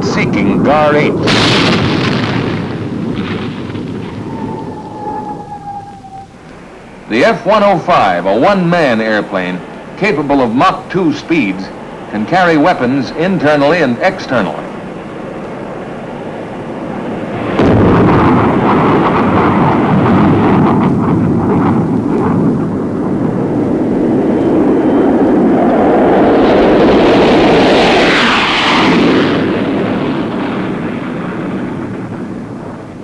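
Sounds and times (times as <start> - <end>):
jet aircraft roaring on takeoff: 0.0 - 33.0.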